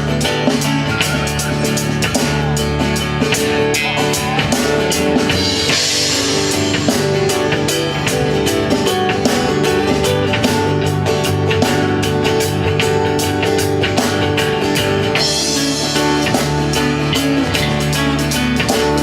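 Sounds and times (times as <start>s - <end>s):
rock music with drums and guitar: 0.0s - 19.0s.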